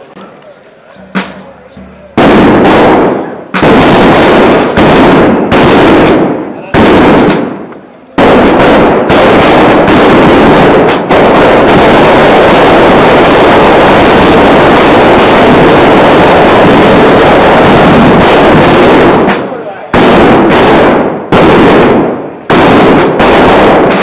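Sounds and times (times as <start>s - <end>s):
firecrackers crackling: 0.0s - 24.0s.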